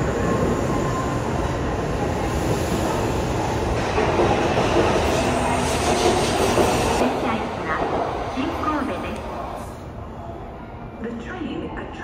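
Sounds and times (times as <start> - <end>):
train rushing noise: 0.0 - 12.0.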